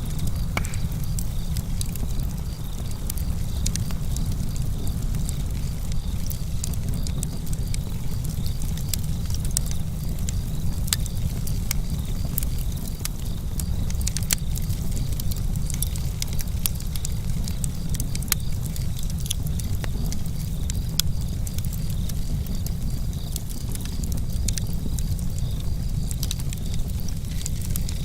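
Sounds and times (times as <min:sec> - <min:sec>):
campfire pops and snaps: 0:00.0 - 0:28.0
low rumble of burning: 0:00.0 - 0:28.0.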